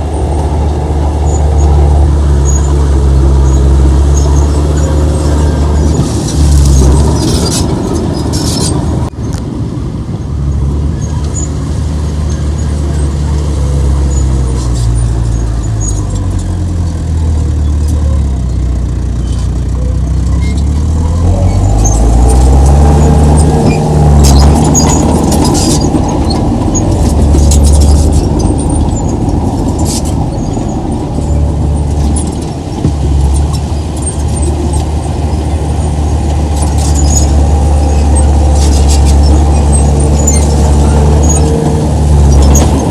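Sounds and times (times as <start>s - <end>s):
heavy diesel engine revving: 0.0s - 9.2s, 10.4s - 42.9s
metallic clicks and squeaks: 2.4s - 8.9s, 12.2s - 42.9s.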